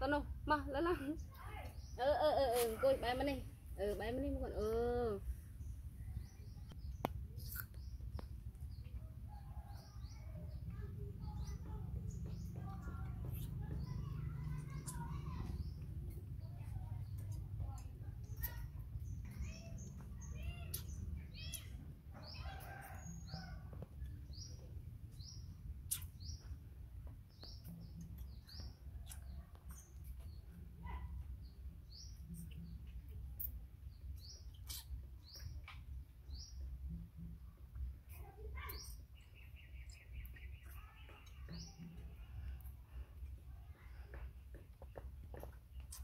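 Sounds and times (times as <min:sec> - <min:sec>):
small bird chirping: 0:00.8 - 0:46.0.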